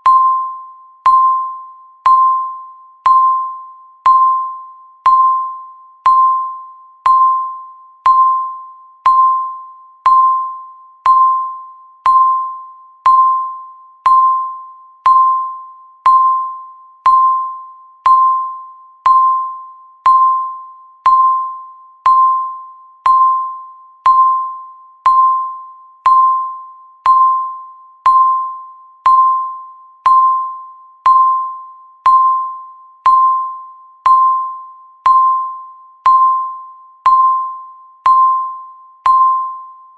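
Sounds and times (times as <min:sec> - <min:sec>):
timer electronic beeps: 0:00.0 - 0:39.9.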